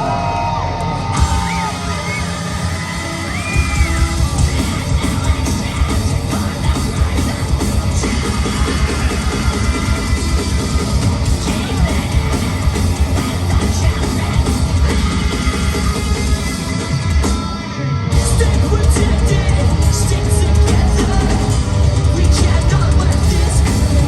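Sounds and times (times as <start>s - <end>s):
live band playing: 0.3s - 24.0s
person singing and yelling: 1.2s - 24.0s.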